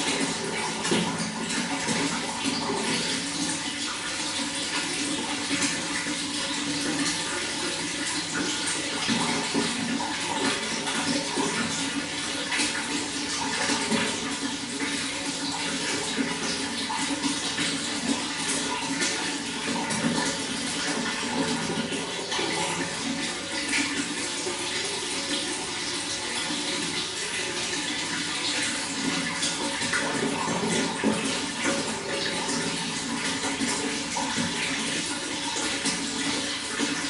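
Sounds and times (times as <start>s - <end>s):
running water splashing: 0.0s - 37.0s.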